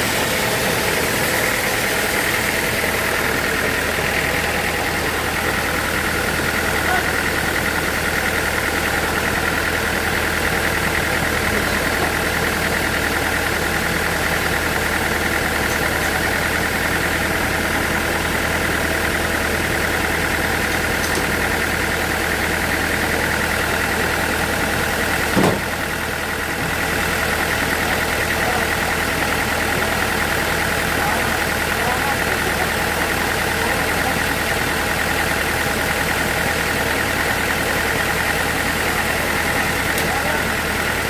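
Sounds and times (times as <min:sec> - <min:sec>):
sawmill machinery whining: 0:00.0 - 0:41.0.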